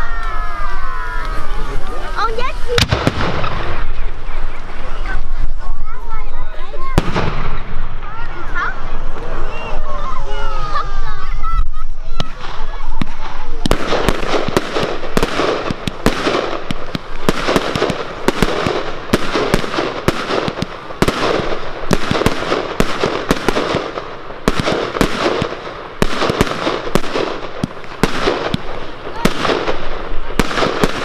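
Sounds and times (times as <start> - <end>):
firework bangs: 0.0 - 31.0
firework crackle: 0.0 - 31.0.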